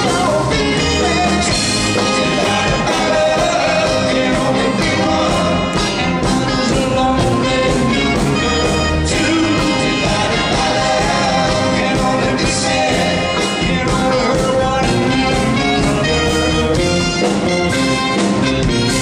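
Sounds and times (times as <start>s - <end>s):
person singing: 0.0s - 16.8s
live rock band playing: 0.0s - 19.0s.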